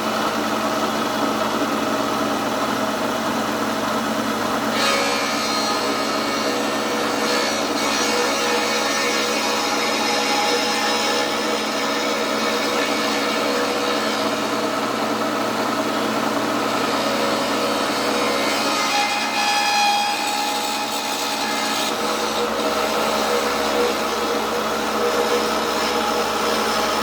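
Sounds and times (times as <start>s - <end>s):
milling machine cutting metal: 0.0s - 27.0s.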